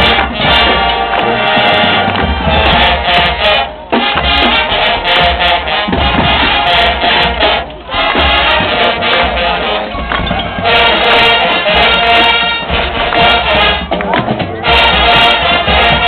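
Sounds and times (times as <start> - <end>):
drums: 0.0 - 16.0
marching band brass chords: 0.0 - 16.0.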